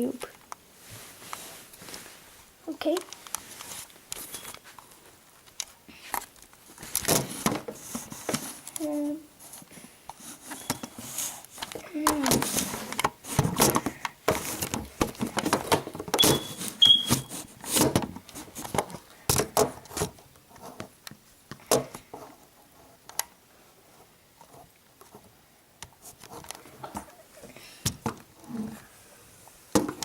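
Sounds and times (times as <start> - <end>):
objects being handled: 0.2 - 28.9.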